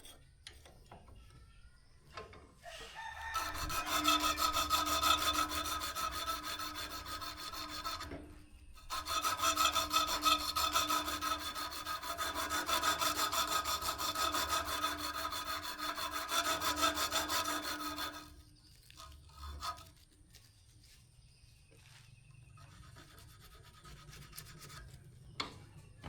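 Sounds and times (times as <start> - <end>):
hand tool scraping steel: 0.0 - 0.8, 2.7 - 20.2, 22.4 - 25.8.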